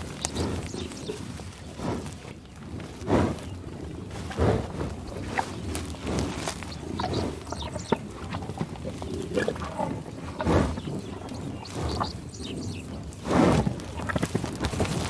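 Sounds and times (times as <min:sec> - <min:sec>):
bison grunting and growling: 0:00.0 - 0:15.0
rustling and munching: 0:00.0 - 0:15.0.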